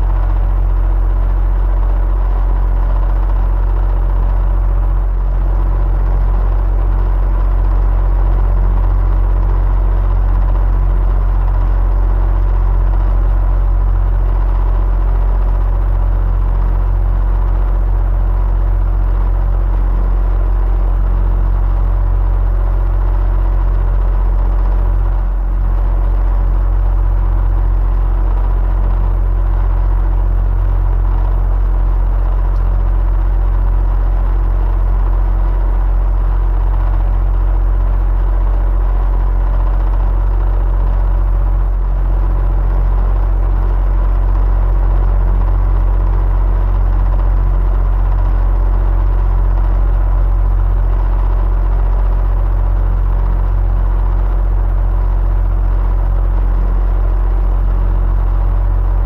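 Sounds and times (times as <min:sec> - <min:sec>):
electric fan rumbling: 0:00.0 - 0:59.0.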